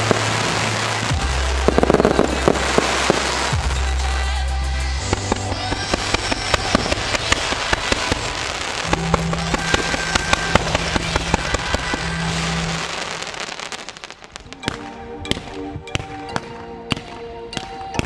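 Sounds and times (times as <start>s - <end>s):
music with bass notes: 0.0s - 13.4s, 14.5s - 18.0s
fireworks popping and crackling: 0.0s - 18.0s.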